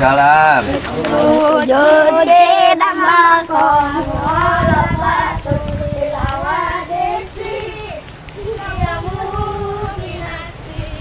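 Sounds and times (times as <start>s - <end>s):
child singing a melodic chant: 1.0s - 11.0s.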